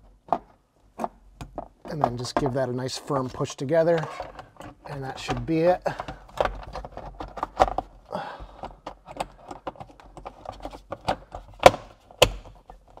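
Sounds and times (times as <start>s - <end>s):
plastic parts clicking and knocking: 0.0s - 13.0s.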